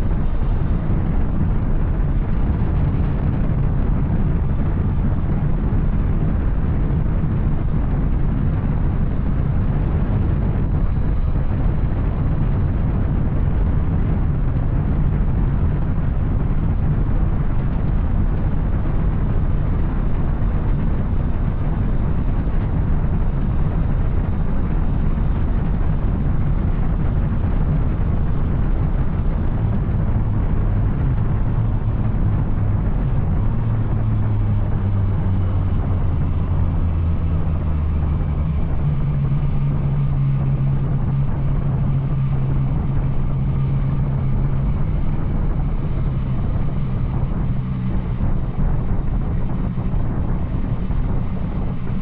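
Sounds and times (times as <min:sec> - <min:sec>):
wind rush: 0:00.0 - 0:52.0.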